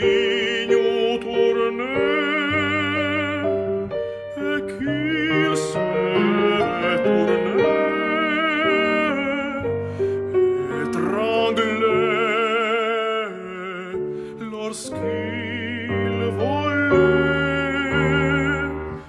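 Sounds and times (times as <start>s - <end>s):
operatic tenor singing: 0.0s - 19.0s
piano accompaniment: 0.0s - 19.0s.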